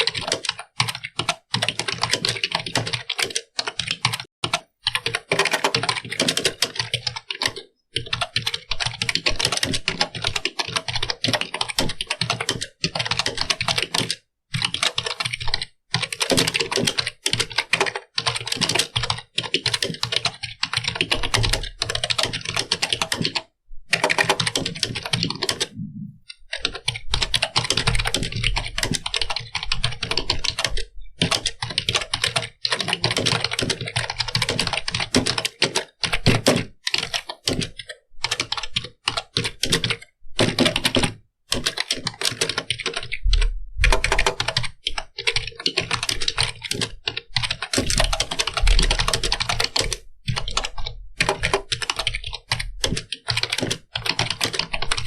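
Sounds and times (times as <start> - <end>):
typing on computer keyboard: 0.0 - 55.0.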